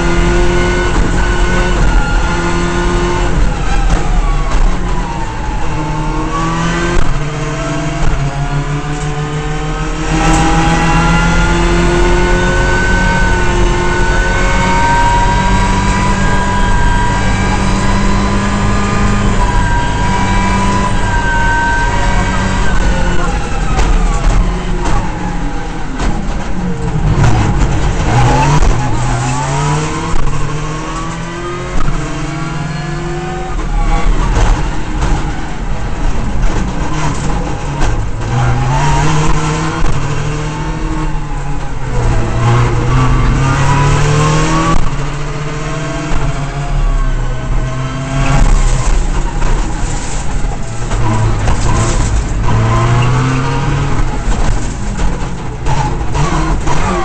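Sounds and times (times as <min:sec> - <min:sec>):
rally car engine revving: 0:00.0 - 0:57.0
road and drivetrain noise: 0:00.0 - 0:57.0.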